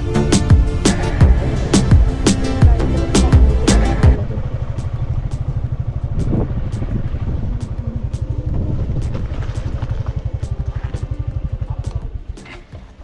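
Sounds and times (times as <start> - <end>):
motorcycle engine idling low: 0.0 - 13.0.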